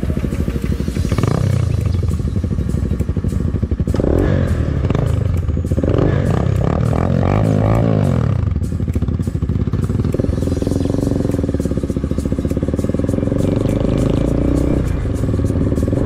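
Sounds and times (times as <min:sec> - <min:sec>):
motorcycle engine pulling away: 0:00.0 - 0:16.0.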